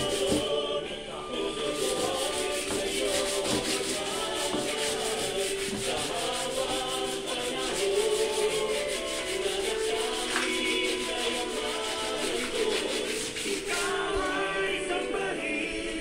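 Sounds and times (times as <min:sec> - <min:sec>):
sandpaper rubbing on putty: 0:00.0 - 0:00.5, 0:01.6 - 0:14.5.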